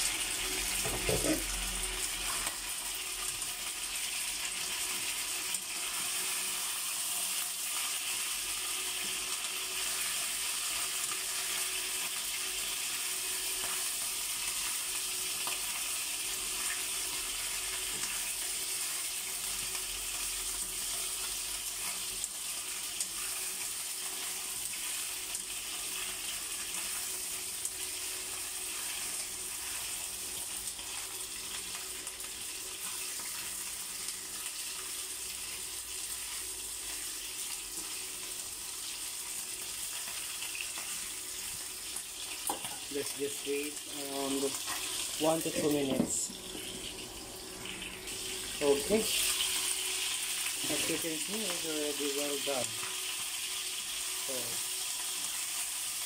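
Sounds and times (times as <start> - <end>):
chicken frying in hot oil: 0.0 - 56.0.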